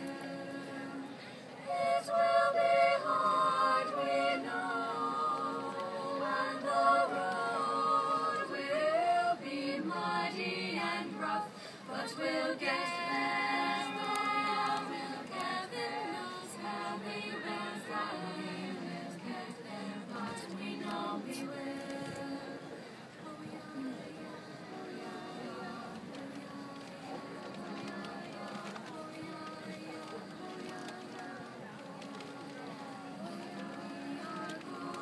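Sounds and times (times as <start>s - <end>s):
women's choir singing a cappella: 0.0s - 35.0s.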